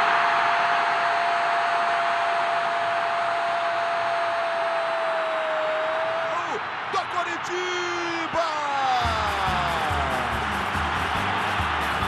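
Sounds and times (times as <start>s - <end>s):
stadium crowd cheering: 0.0s - 12.0s.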